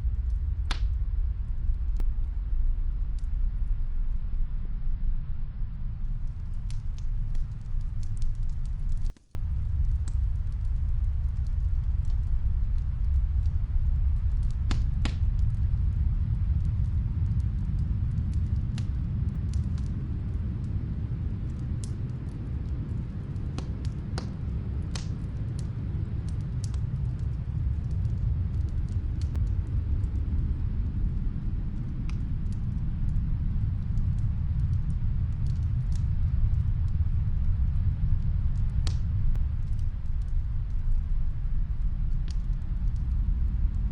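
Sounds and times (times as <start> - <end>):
snowstorm wind rumble: 0.0 - 43.9
wood fire crackling: 0.0 - 43.9.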